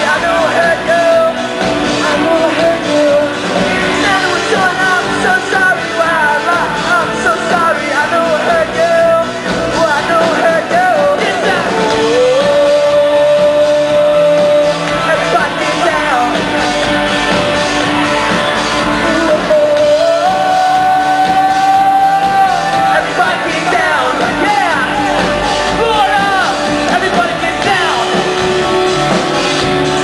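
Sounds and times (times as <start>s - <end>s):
drums: 0.0s - 30.0s
electric guitars: 0.0s - 30.0s
person singing lead vocal: 0.0s - 30.0s.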